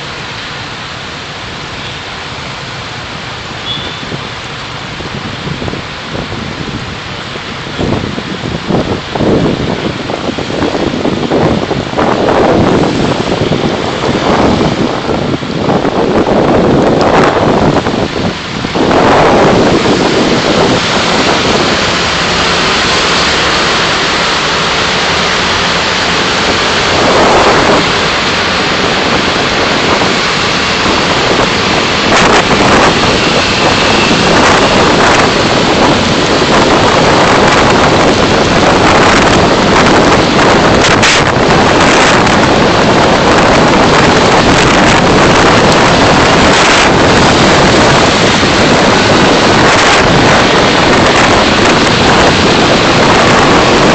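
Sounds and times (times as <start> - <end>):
car wind and road noise: 0.0 - 53.9.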